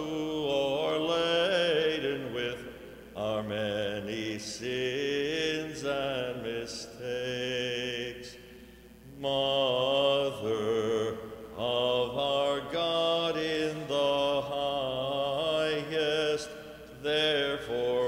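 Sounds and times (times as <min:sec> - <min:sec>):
person chanting ornamented melody: 0:00.0 - 0:08.4, 0:09.1 - 0:18.0.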